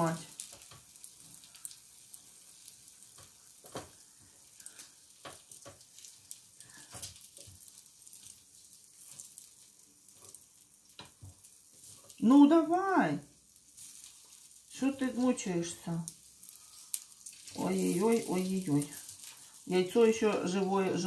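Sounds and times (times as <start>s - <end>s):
food sizzling on a grill plate: 0.0s - 21.0s.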